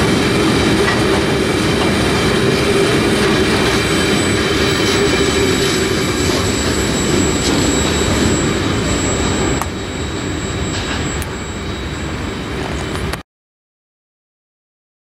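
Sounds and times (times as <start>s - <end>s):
train wagons rumbling on rails: 0.0s - 13.2s.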